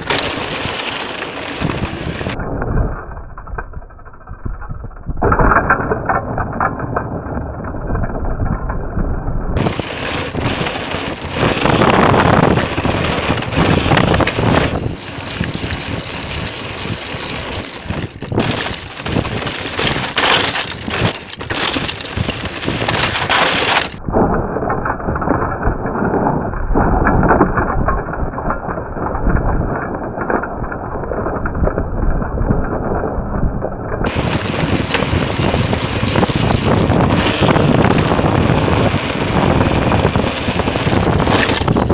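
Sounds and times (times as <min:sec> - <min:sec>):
bike tyres and frame rattling: 0:00.0 - 0:41.9
wind on microphone: 0:00.0 - 0:41.9.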